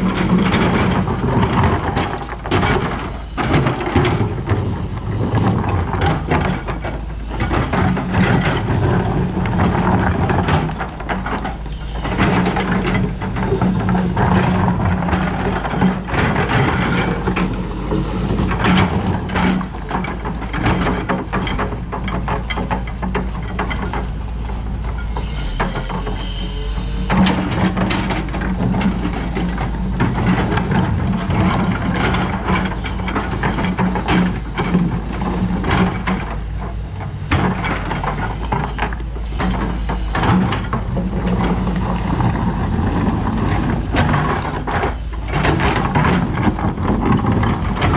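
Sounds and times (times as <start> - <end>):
excavator diesel engine running: 0.0 - 47.9
metallic clanks and rattles: 0.0 - 47.9.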